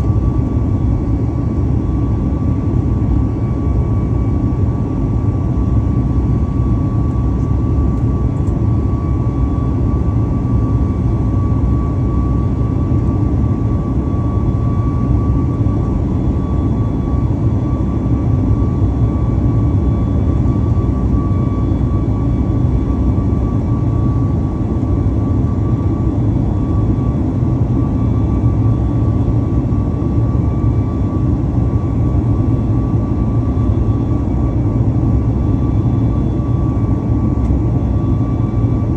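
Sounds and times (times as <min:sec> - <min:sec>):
jet engine cabin rumble: 0:00.0 - 0:38.9
thin steady whine: 0:00.0 - 0:38.9.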